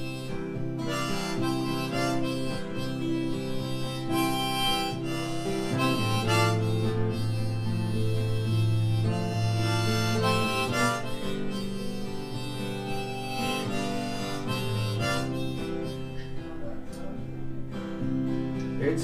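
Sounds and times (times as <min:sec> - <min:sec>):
guitar accompaniment: 0:00.0 - 0:19.0
harmonica melody: 0:00.0 - 0:19.0.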